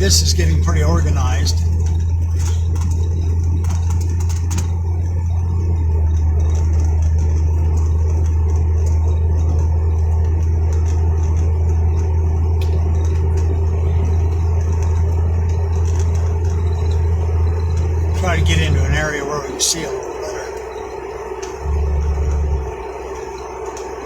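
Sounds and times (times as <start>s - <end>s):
vehicle engine drone inside cab: 0.0s - 24.0s.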